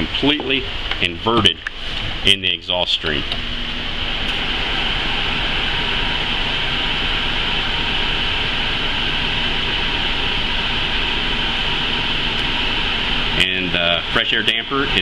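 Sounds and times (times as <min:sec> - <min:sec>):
exhaust fan rushing air: 0:00.0 - 0:15.0.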